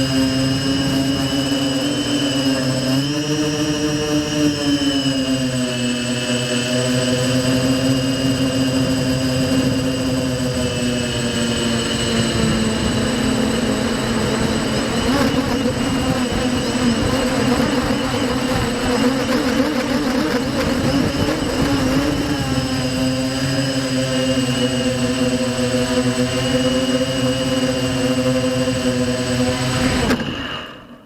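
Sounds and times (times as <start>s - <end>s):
quadcopter motors buzzing: 0.0s - 31.0s.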